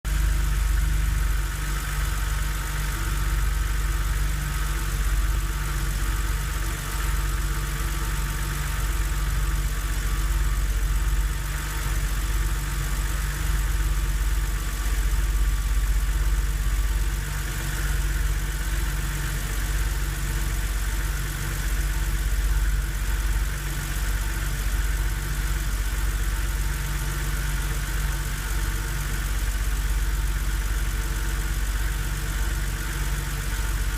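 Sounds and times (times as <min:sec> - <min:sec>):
car engine idling: 0:00.0 - 0:33.9
engine knocking: 0:00.0 - 0:33.9.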